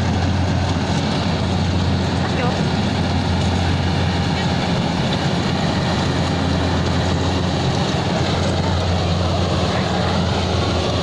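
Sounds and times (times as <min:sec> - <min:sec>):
combine harvester engine droning: 0:00.0 - 0:11.0.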